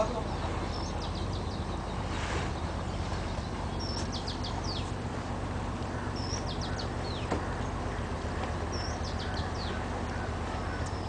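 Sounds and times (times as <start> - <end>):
boat motor drone: 0.0 - 11.0.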